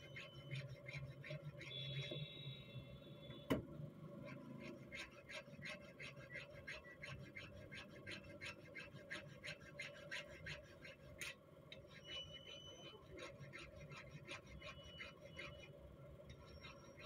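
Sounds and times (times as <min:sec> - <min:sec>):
hand file rasping on steel: 0:00.0 - 0:02.2, 0:04.2 - 0:17.0.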